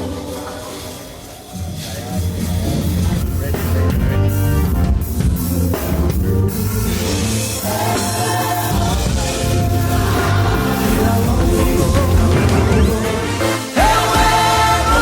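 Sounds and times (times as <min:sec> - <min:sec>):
live band playing loud music: 0:00.0 - 0:15.0.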